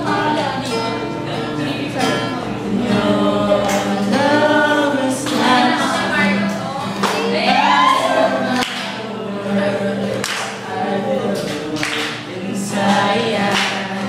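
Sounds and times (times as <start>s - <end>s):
acoustic guitar strummed: 0.0s - 14.0s
voices singing a serenade: 0.0s - 14.0s.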